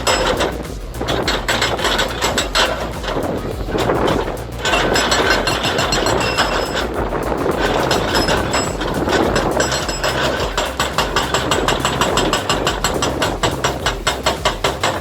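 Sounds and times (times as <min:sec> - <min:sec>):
crushing machinery running: 0:00.0 - 0:15.0
sharp knocking clatter: 0:00.0 - 0:15.0.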